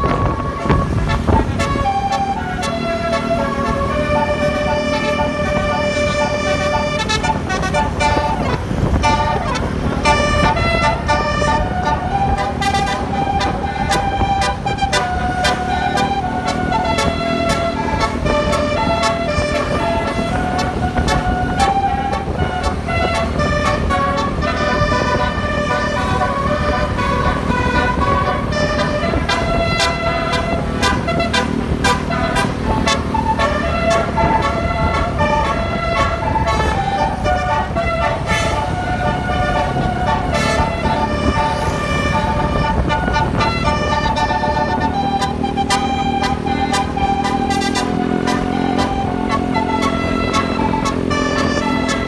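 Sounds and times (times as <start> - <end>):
musical bus horn tune: 0.0 - 52.0.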